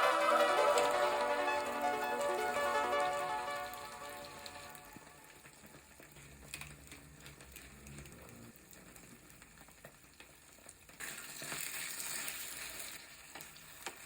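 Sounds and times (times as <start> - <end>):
food frying in hot oil: 0.0 - 14.0.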